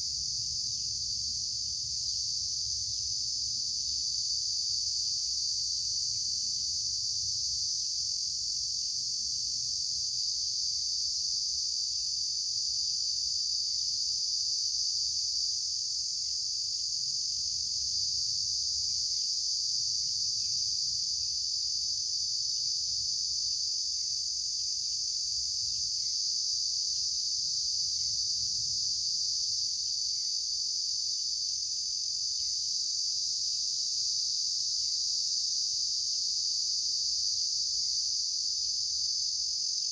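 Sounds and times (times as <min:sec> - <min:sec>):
insect chorus droning: 0:00.0 - 0:39.9.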